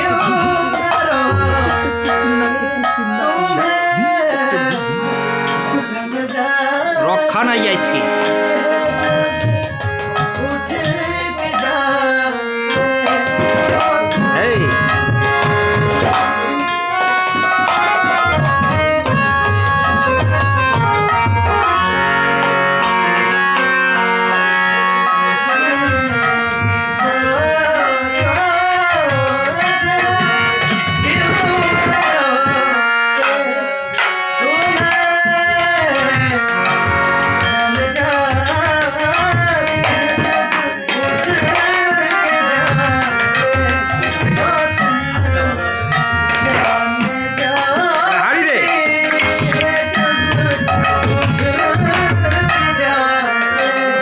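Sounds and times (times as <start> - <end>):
man singing: 0.0 - 22.0, 22.8 - 54.0
hand drum steady rhythm: 0.0 - 23.7, 25.6 - 52.9
harmonium holding chords: 0.0 - 54.0.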